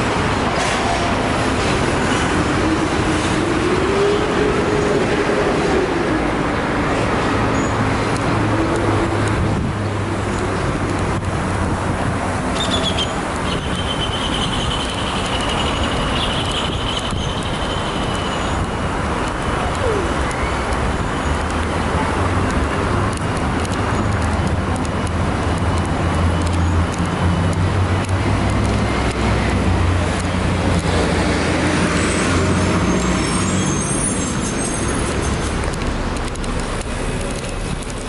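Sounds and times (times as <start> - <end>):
street traffic: 0.0 - 38.0.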